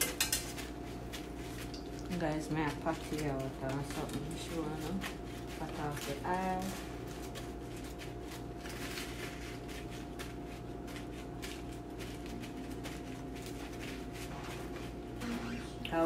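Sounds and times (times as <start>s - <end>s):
low electrical hum: 0.0s - 16.0s
paper towel rustling and crinkling: 0.4s - 16.0s.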